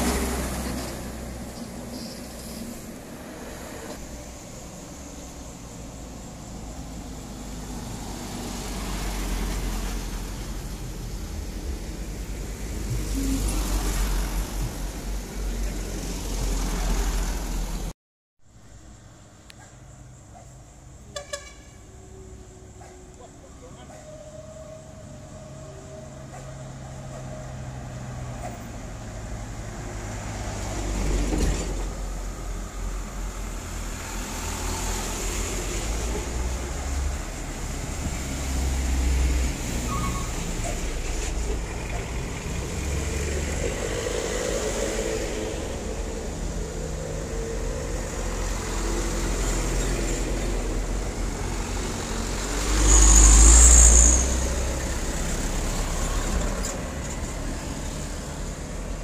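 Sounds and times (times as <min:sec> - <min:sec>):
vehicles driving by: 0:00.0 - 0:17.9, 0:18.5 - 0:59.0.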